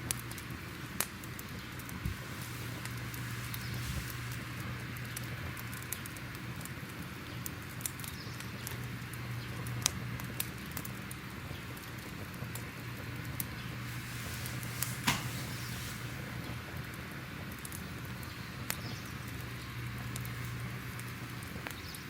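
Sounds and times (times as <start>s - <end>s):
fire crackling: 0.0s - 22.0s
low steady hum: 0.0s - 22.0s.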